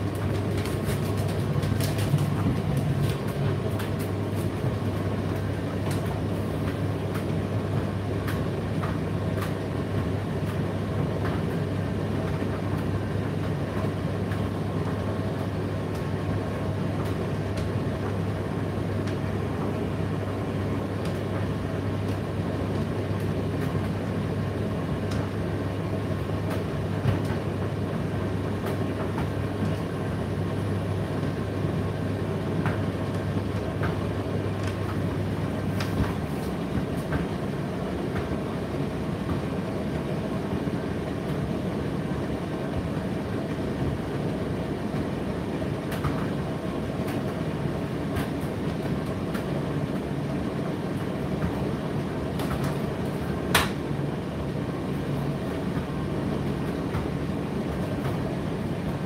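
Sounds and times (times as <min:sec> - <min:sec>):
tumble dryer hum and rumble: 0:00.0 - 0:59.0.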